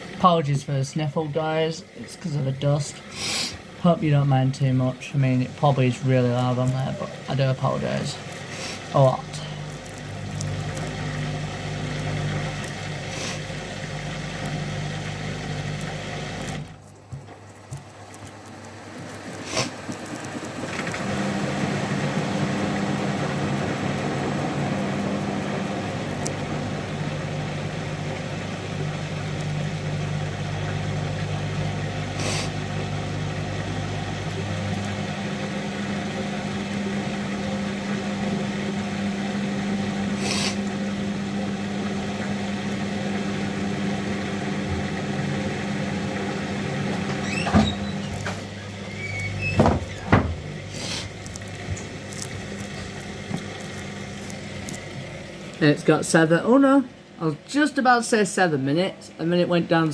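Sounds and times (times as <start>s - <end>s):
washing machine drum spinning: 0.0s - 55.5s.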